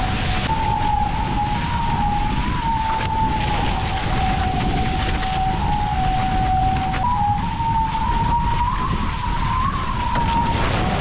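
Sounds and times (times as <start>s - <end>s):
hydrofoil humming whine: 0.0s - 11.0s
rushing water: 0.0s - 11.0s
wind buffeting microphone: 0.0s - 11.0s.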